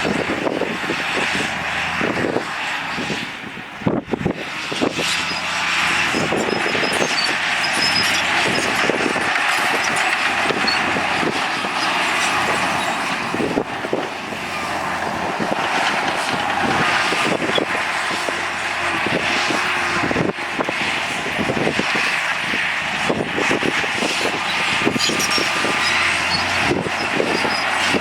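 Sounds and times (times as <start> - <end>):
diesel machinery running under load: 0.0 - 28.0.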